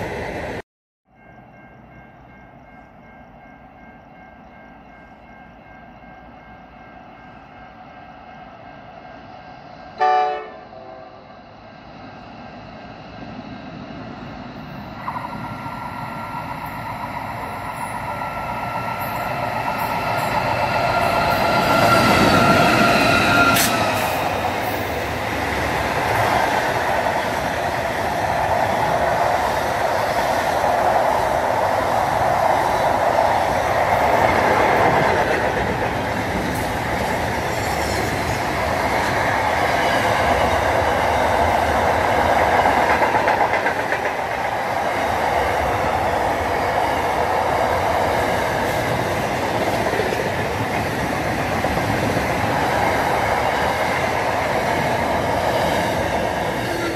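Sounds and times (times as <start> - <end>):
freight train wheels on rails: 11.3 - 56.9.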